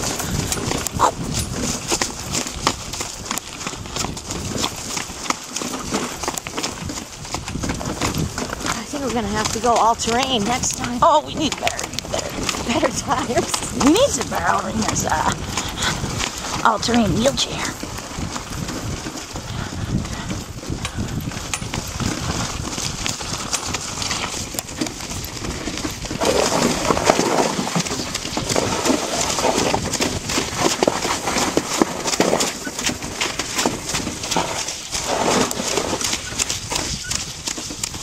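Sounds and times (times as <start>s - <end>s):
cart and harness clattering: 0.0s - 38.0s
pony hooves clip-clopping: 0.0s - 38.0s.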